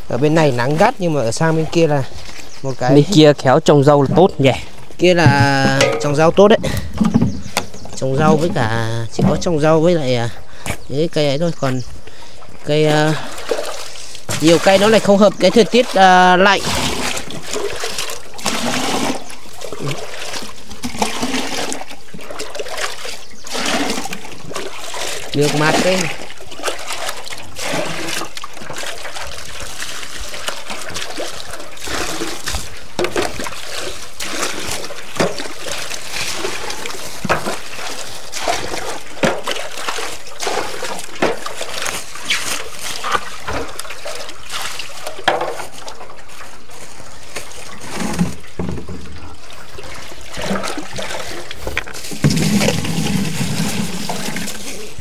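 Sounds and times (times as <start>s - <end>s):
short water splashes: 0.0s - 55.0s
water trickling: 0.0s - 55.0s.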